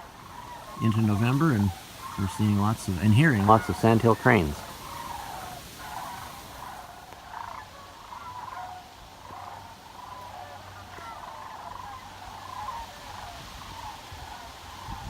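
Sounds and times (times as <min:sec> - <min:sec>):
cranes calling in flight: 0:00.0 - 0:15.0.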